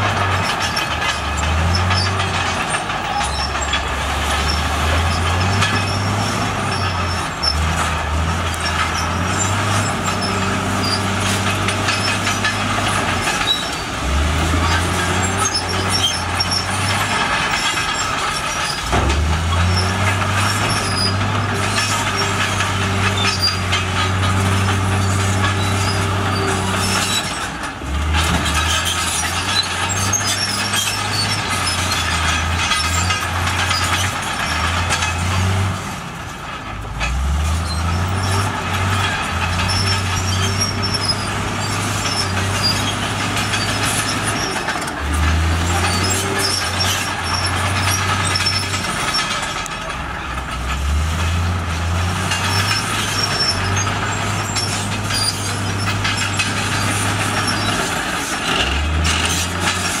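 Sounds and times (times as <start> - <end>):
continuous rattling clatter: 0.0 - 60.0
heavy diesel engine under load: 0.0 - 60.0.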